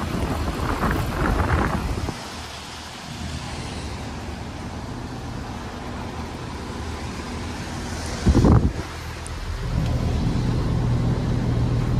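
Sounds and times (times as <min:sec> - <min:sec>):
air conditioner fan humming: 0:00.0 - 0:11.9.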